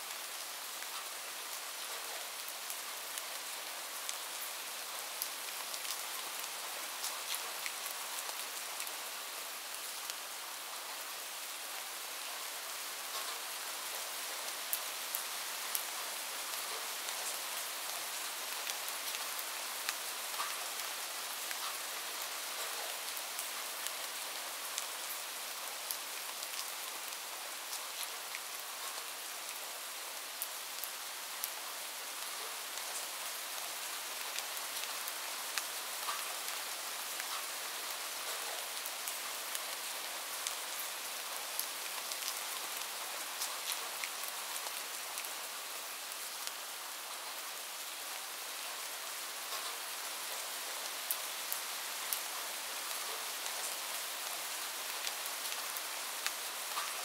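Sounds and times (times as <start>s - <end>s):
light rain hissing: 0.0s - 57.0s.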